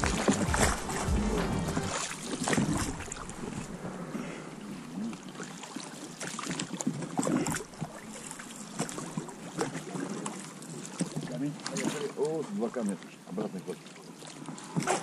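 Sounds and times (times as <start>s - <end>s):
oars dipping through water: 0.0s - 15.0s
steady water hiss: 0.0s - 15.0s
water splashes: 0.0s - 15.0s.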